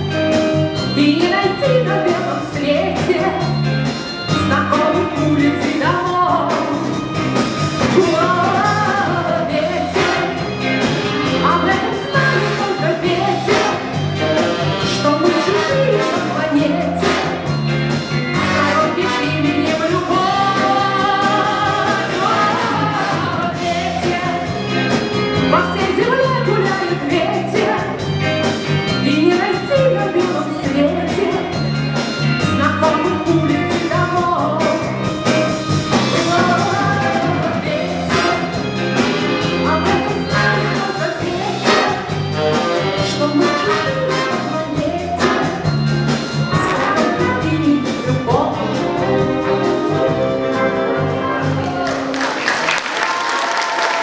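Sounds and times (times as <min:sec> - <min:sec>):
big band playing: 0:00.0 - 0:54.0
woman singing: 0:00.7 - 0:07.2, 0:07.8 - 0:10.6, 0:11.2 - 0:52.0.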